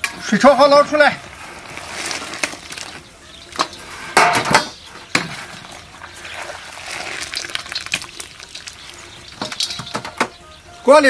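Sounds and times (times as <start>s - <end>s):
water pouring and dripping: 1.2s - 10.4s.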